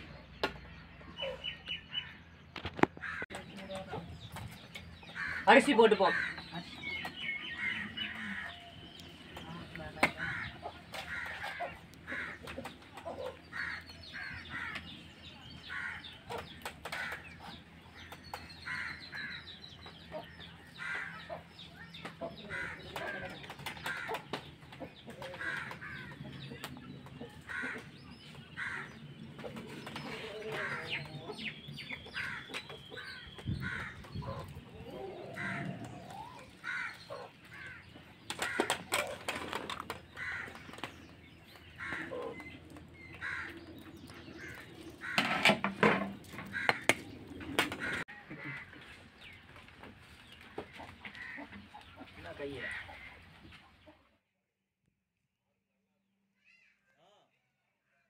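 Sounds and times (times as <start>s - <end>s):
chickens clucking: 0.0s - 54.2s.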